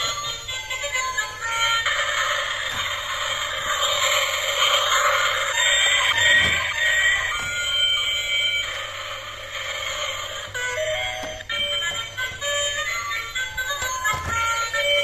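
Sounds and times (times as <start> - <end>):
toy train electronic beeping: 0.0 - 15.0.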